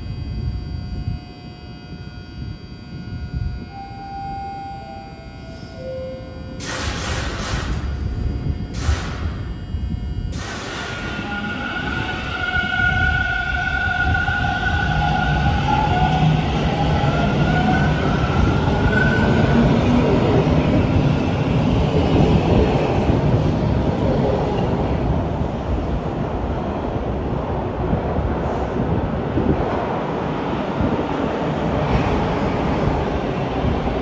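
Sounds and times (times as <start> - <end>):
subway train wheels rumbling: 4.8 - 34.0.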